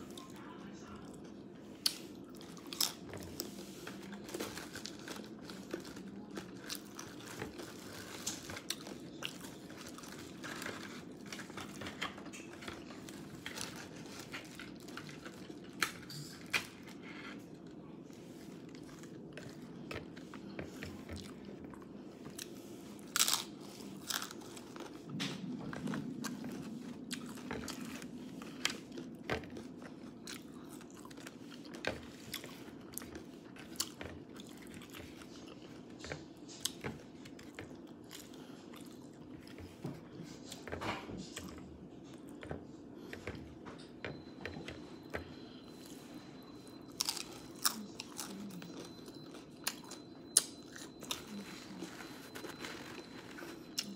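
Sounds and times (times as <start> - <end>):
person chewing crunchy food: 1.8 - 39.8, 46.8 - 53.9.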